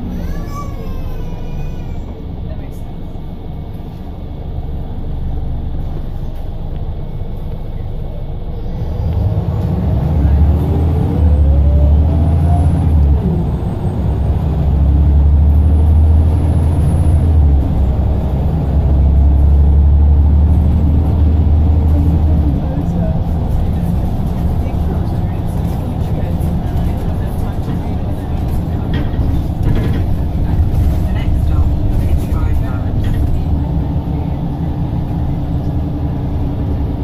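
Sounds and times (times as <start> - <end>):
bus diesel engine droning: 0.0 - 37.0.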